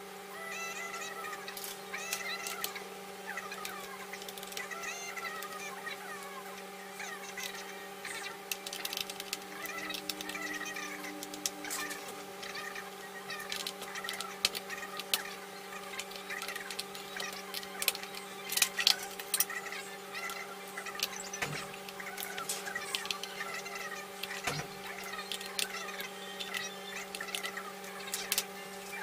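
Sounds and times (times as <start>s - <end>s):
steady electrical hum: 0.0s - 29.0s
faint bird chirps: 0.4s - 29.0s.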